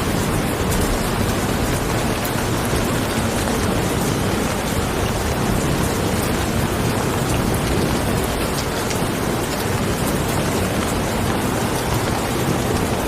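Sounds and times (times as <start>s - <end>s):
heavy rain hissing: 0.0s - 13.0s
raindrop ticks: 0.0s - 13.0s.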